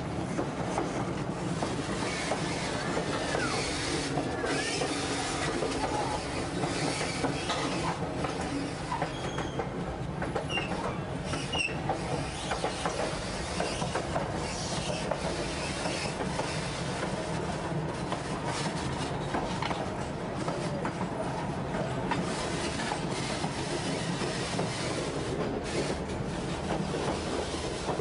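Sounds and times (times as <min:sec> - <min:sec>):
train wheels rumbling on rails: 0:00.0 - 0:28.0
rapid clicking over track: 0:00.3 - 0:09.6, 0:11.3 - 0:21.1, 0:21.7 - 0:28.0.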